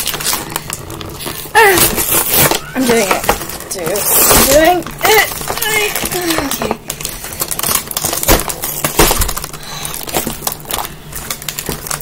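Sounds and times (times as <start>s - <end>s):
cardboard and plastic packaging tearing: 0.0s - 12.0s.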